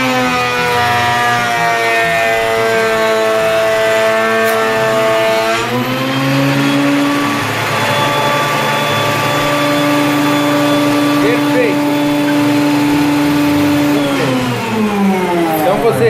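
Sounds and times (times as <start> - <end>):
thickness planer motor running: 0.0 - 16.0.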